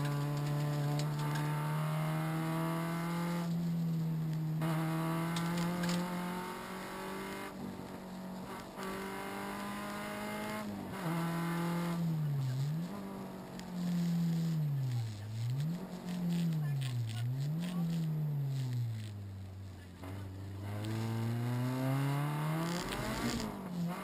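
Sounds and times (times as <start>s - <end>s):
rally car engine at high revs: 0.0s - 24.0s.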